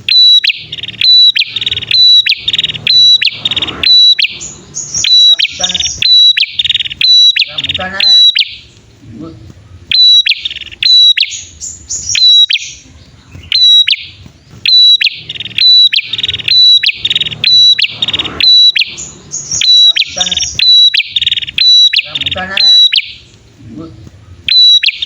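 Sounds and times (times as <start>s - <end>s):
birds calling with sharp chips: 0.0s - 25.0s
buzzy rattling bird trills: 0.0s - 25.0s.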